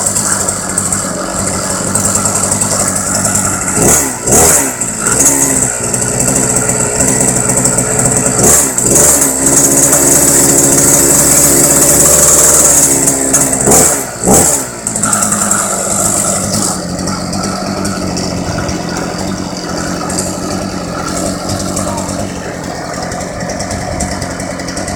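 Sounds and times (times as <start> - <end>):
scooter engine revving and idling: 0.0 - 24.9.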